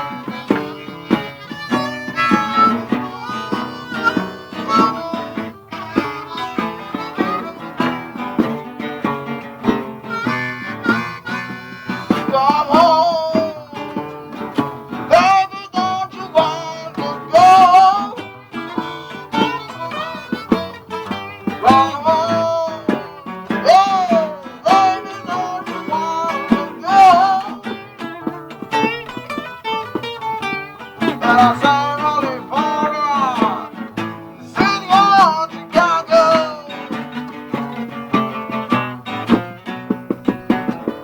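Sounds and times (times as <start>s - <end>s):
guitar playing blues: 0.0s - 41.0s
harmonica wailing: 0.0s - 41.0s.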